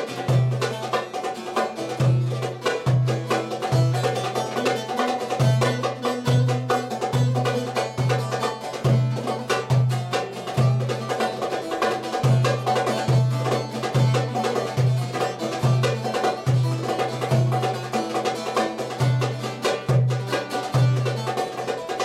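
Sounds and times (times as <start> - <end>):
plucked string instrument: 0.0 - 22.0.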